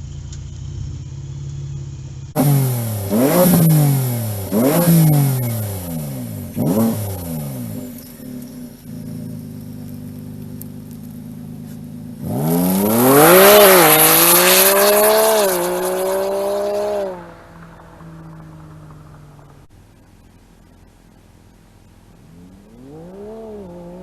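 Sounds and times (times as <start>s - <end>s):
pickup engine accelerating: 0.0s - 24.0s.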